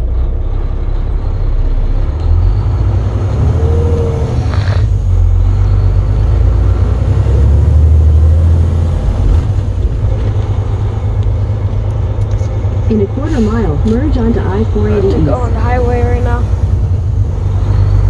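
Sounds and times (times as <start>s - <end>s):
truck engine drone: 0.0s - 18.0s.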